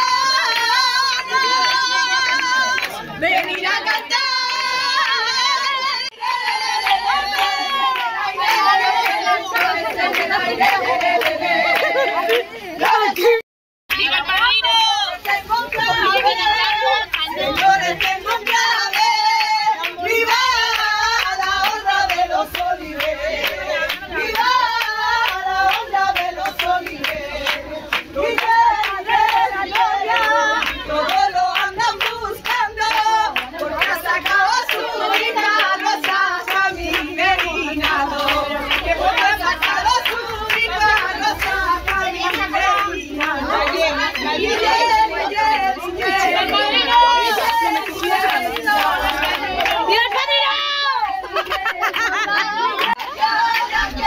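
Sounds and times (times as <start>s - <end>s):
crowd clapping along: 0.0s - 54.0s
crowd singing: 0.0s - 54.0s.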